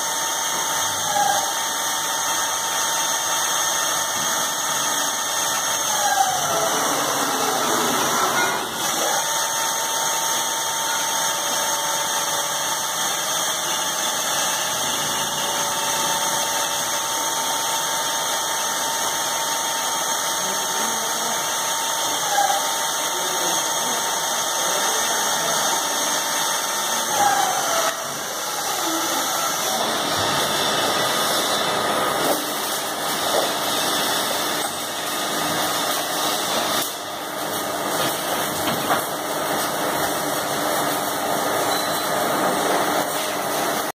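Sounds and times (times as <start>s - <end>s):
drilling machine motor whine: 0.0s - 43.8s.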